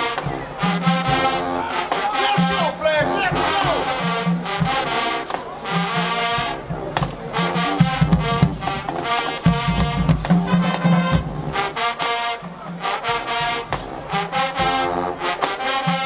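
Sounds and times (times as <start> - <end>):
brass section chords: 0.0 - 16.0
drumline beat: 0.0 - 16.0
low brass bass notes: 0.0 - 16.0.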